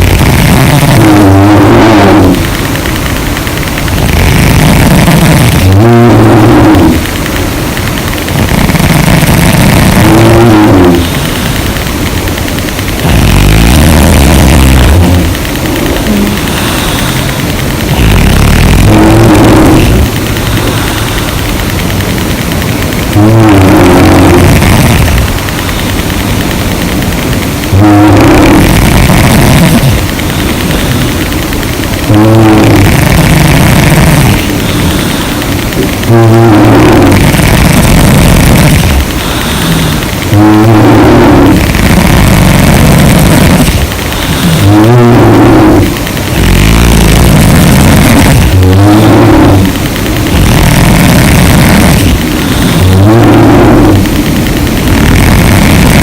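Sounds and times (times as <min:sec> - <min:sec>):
rough breathing: 0:00.0 - 0:56.0
woman snoring loudly: 0:00.0 - 0:56.0.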